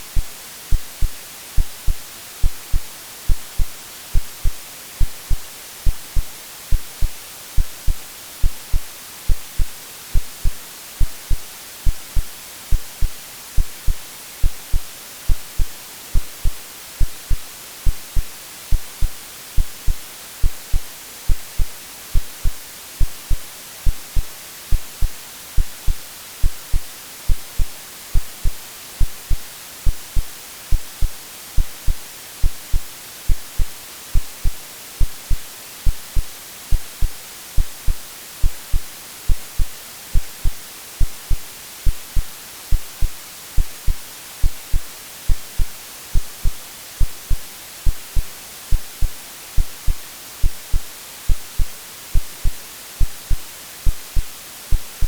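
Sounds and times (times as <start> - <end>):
heartbeat thumps: 0.0 - 55.0
white noise hiss: 0.0 - 55.0.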